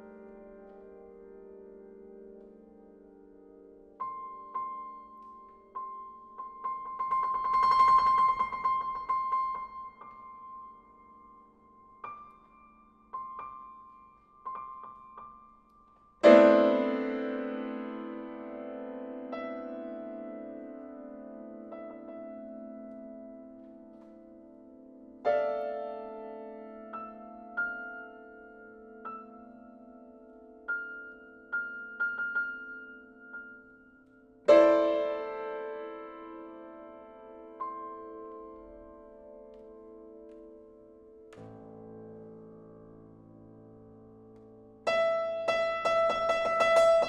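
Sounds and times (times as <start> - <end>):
grand piano notes and chord: 0.0 - 47.0.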